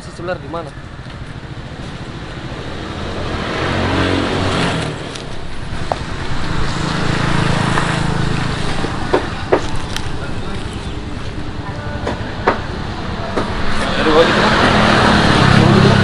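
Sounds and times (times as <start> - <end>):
vehicles passing on road: 0.0 - 16.0.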